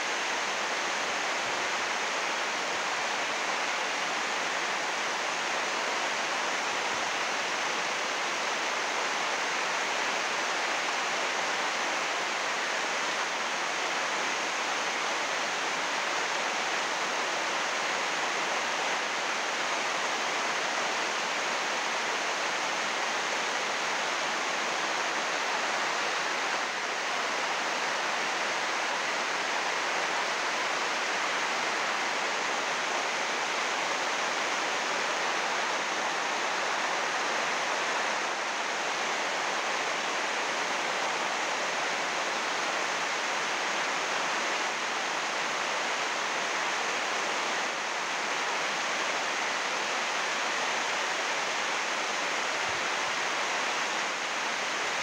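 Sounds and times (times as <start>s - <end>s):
heavy rain on plastic roof: 0.0s - 55.0s.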